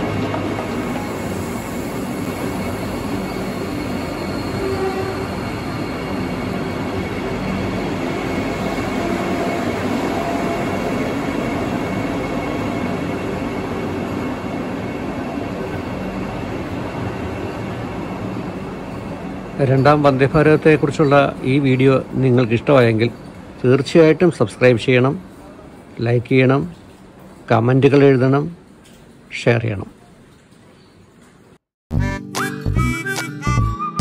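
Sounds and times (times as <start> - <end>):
train wheels on rail: 0.0 - 31.6.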